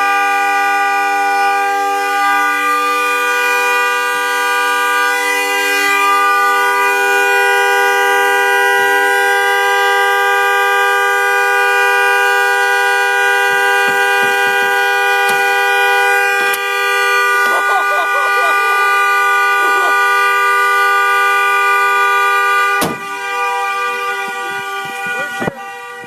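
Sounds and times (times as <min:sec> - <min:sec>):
car horn blaring: 0:00.0 - 0:26.0.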